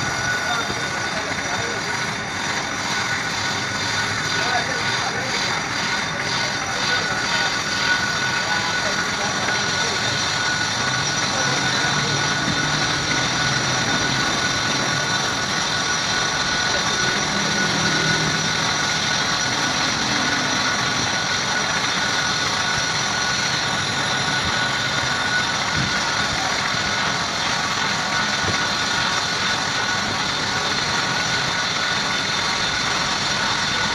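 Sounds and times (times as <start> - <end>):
machine high whine: 0.0 - 33.9.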